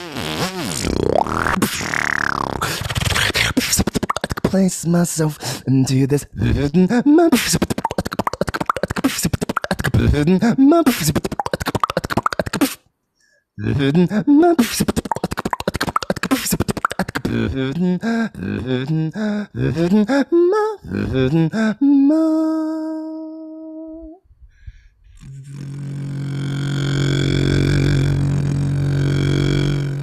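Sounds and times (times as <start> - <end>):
person beatboxing into microphone: 0.0 - 12.8, 13.6 - 23.0, 25.2 - 30.0.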